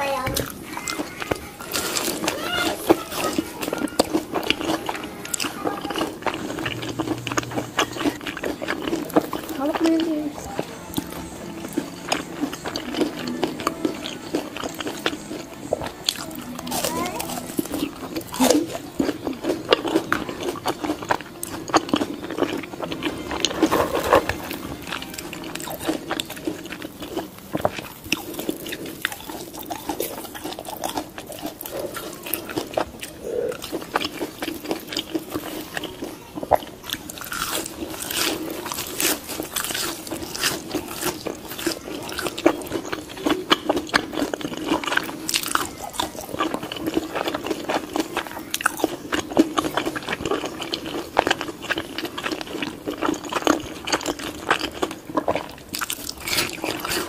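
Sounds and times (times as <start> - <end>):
crunching and chewing crispy pork: 0.0 - 57.0.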